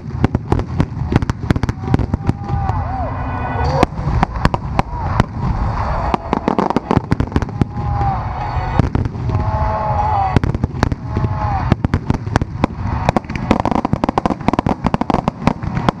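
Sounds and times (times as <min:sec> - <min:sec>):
constant low rumble: 0:00.0 - 0:16.0
fireworks bursting: 0:00.0 - 0:16.0.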